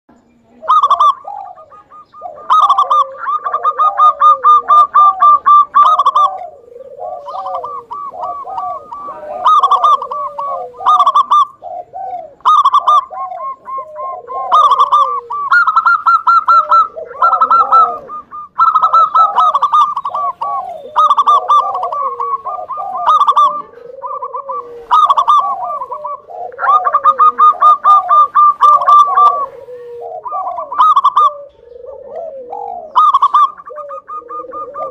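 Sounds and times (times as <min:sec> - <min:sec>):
dove cooing: 0:00.4 - 0:34.9.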